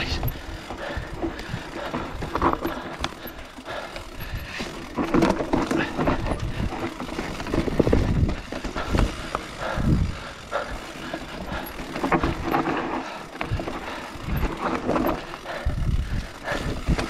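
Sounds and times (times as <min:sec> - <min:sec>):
bike tyre noise on trail: 0:00.0 - 0:17.0.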